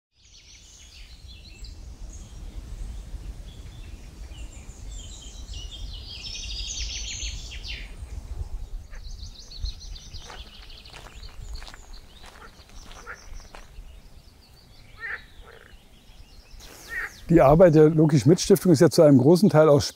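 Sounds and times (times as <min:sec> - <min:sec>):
songbirds singing: 0:00.2 - 0:19.9.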